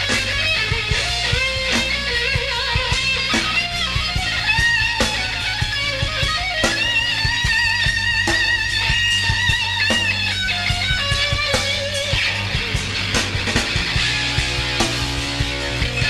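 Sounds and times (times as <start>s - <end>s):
drums: 0.0s - 16.0s
electric guitar lead line: 0.0s - 16.0s.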